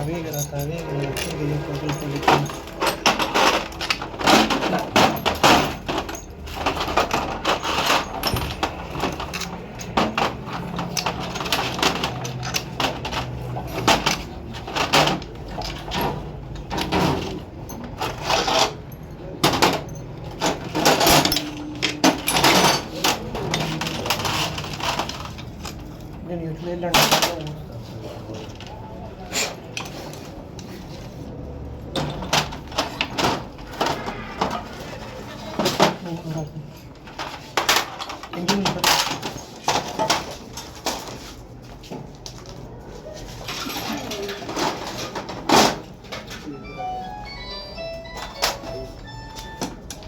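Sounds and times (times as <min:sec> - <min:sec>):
metal tools clinking: 0:00.0 - 0:31.2, 0:31.8 - 0:50.0.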